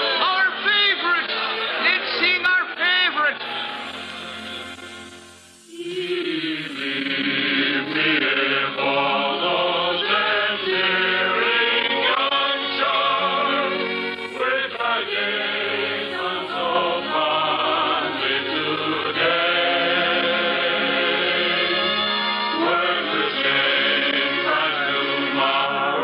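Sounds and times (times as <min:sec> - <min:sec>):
instrumental accompaniment: 0:00.0 - 0:25.9
choir singing: 0:03.4 - 0:26.0.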